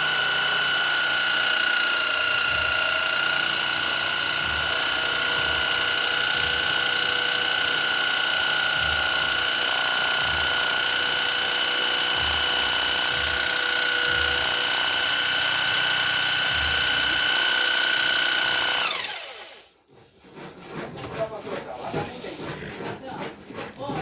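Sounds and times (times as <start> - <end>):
electric drill whining: 0.0 - 19.7.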